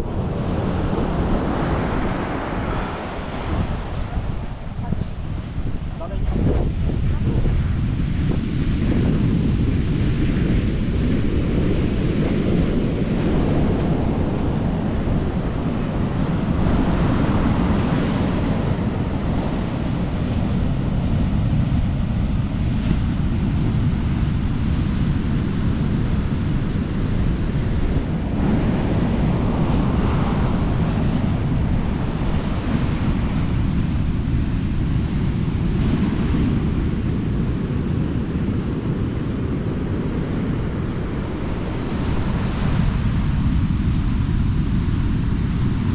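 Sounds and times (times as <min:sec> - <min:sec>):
surf breaking on beach: 0:00.0 - 0:45.9
wind on microphone: 0:00.0 - 0:45.9.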